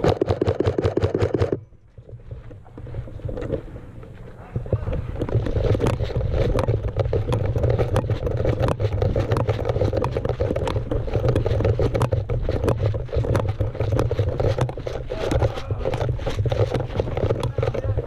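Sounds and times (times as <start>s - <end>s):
gear rattling: 0.0s - 18.0s
footsteps on gravel: 1.4s - 18.0s
low handling rumble: 1.6s - 18.0s.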